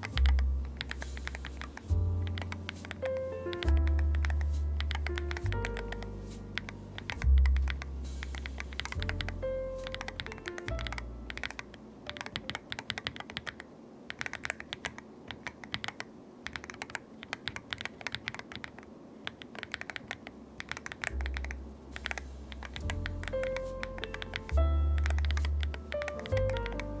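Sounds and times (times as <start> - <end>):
keyboard keystroke clacks: 0.0 - 7.8, 8.5 - 27.0.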